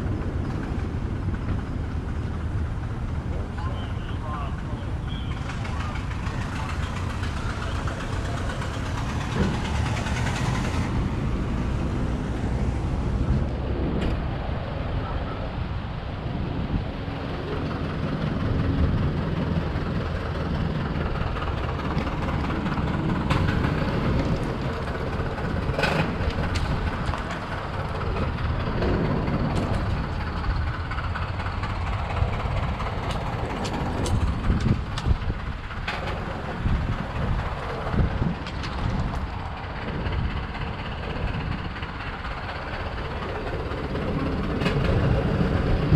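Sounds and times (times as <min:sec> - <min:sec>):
traffic engine rumble: 0:00.0 - 0:45.9.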